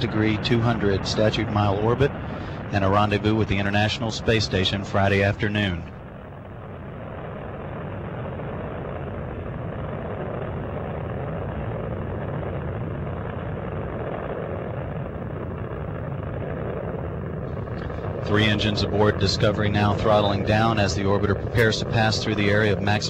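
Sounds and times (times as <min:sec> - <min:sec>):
rocket engines roaring: 0:00.0 - 0:23.0.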